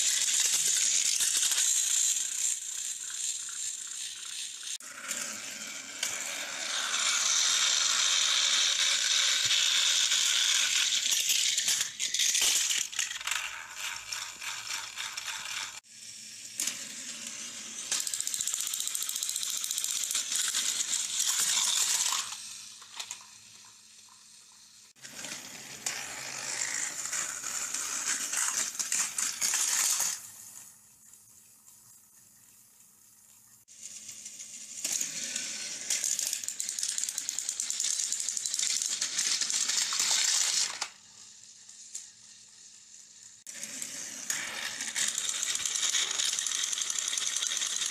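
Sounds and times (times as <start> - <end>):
toy trains rattling on track: 0.0 - 30.8, 33.6 - 47.9.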